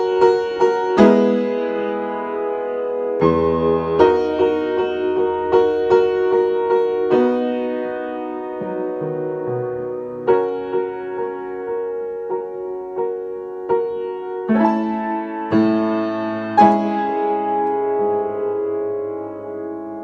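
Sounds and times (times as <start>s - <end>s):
upright piano chords: 0.0s - 20.0s.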